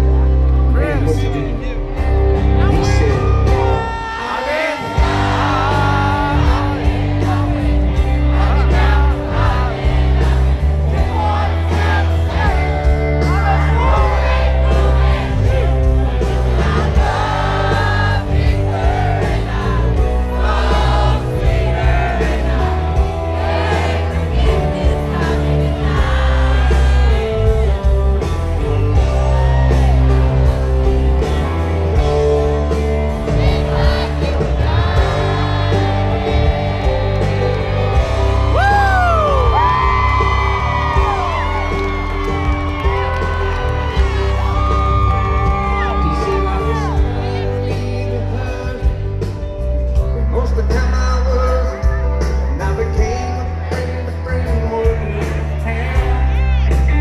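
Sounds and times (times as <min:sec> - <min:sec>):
crowd noise: 0:00.0 - 0:57.0
live country band: 0:00.0 - 0:57.0
man singing lead vocals: 0:02.8 - 0:30.6, 0:33.1 - 0:41.4, 0:44.4 - 0:57.0.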